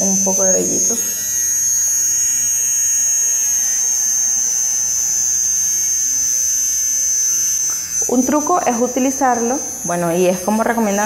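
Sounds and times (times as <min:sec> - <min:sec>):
facial hair remover whining: 0:00.0 - 0:11.0.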